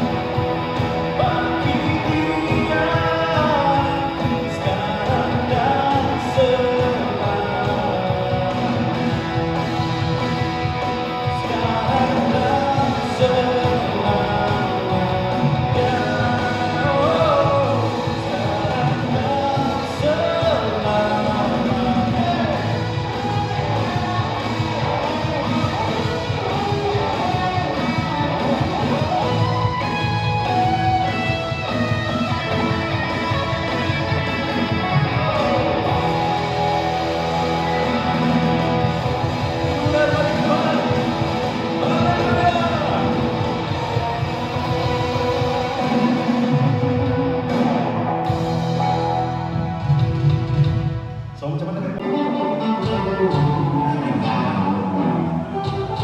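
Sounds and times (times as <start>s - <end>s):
person singing: 0.0s - 47.9s, 51.5s - 56.0s
live band playing a song: 0.0s - 56.0s.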